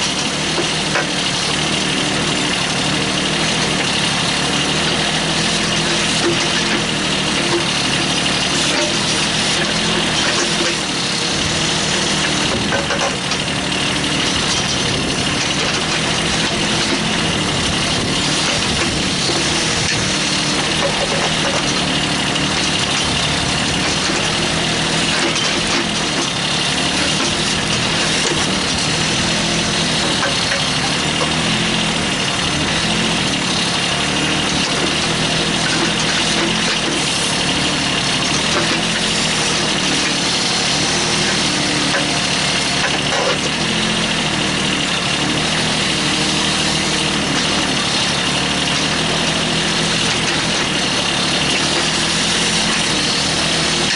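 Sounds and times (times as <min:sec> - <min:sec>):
backhoe digging: 0:00.0 - 0:53.9
tractor diesel engine running: 0:00.0 - 0:53.9.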